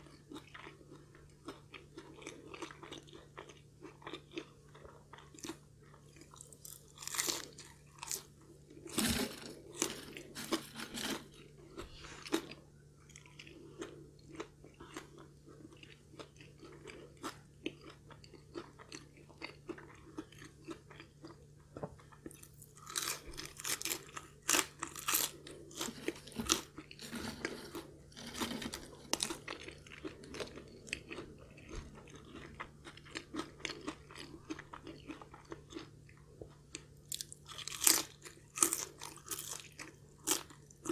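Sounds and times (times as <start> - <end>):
crunching fried chicken: 0.0 - 40.9.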